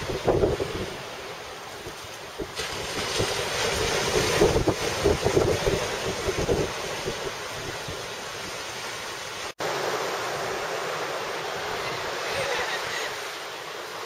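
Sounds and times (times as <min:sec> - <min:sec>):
ocean surf on beach: 0:00.0 - 0:14.0.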